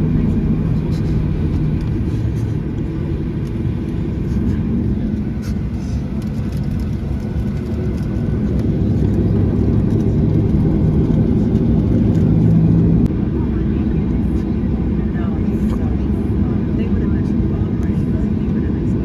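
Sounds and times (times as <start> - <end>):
jet engines rumbling inside cabin: 0.0 - 19.0.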